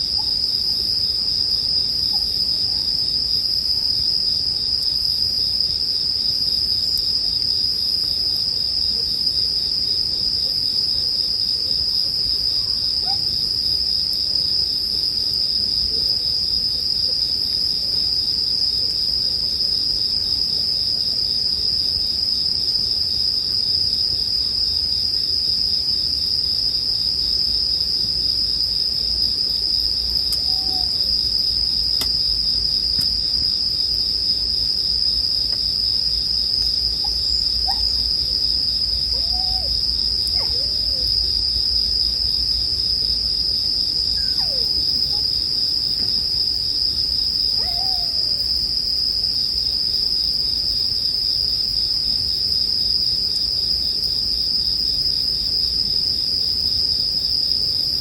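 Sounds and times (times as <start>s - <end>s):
crickets chirping chorus: 0.0s - 58.0s.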